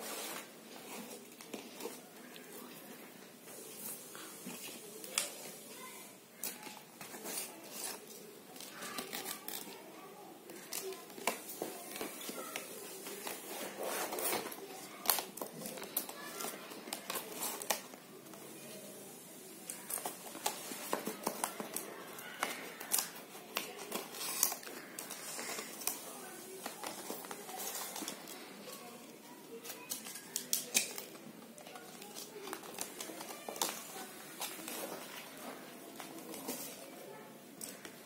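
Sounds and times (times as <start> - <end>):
paper rustling: 0.0 - 2.8, 3.5 - 38.0.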